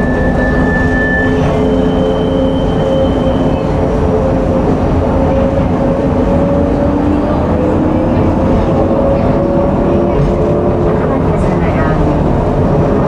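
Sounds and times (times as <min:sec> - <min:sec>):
tram rolling rumble: 0:00.0 - 0:13.0.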